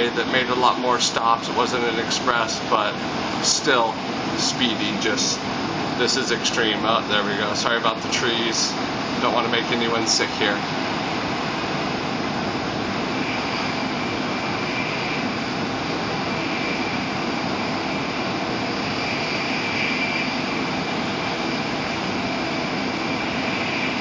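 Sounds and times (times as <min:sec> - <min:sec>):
faint high whine: 0:00.0 - 0:24.0
train rushing noise: 0:00.0 - 0:24.0.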